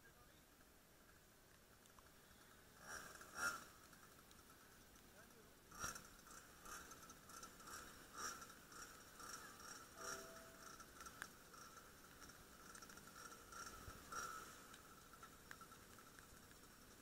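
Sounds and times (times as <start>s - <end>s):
soft irregular ticks: 0.3s - 17.0s.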